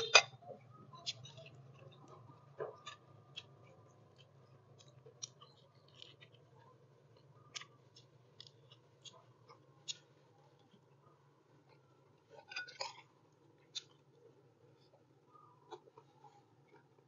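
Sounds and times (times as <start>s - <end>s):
chewing clicks and crunches: 0.0s - 17.0s
low steady hum: 0.0s - 17.0s.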